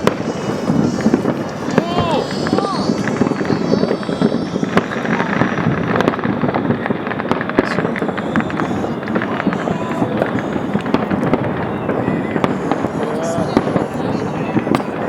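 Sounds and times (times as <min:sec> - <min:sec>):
fireworks and firecrackers crackling: 0:00.0 - 0:15.0.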